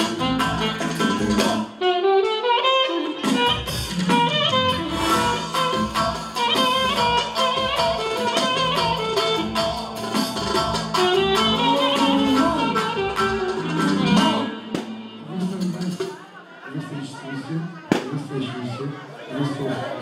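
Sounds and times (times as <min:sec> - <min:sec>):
dance music: 0:00.0 - 0:16.3.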